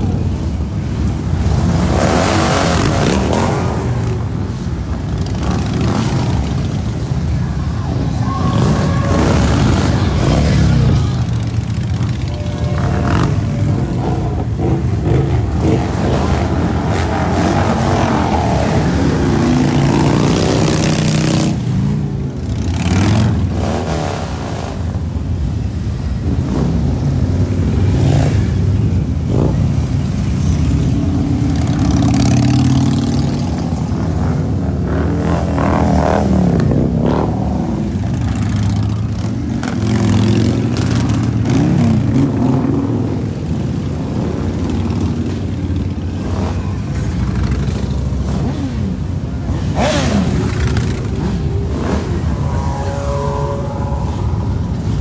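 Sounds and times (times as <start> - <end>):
motorcycles riding past revving: 0.0 - 55.0.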